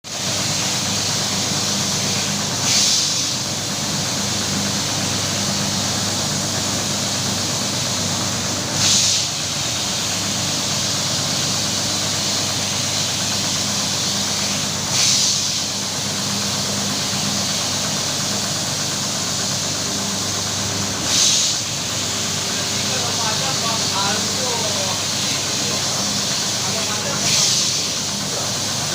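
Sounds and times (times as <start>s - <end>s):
carpet washing machine motor hum: 0.1s - 28.9s.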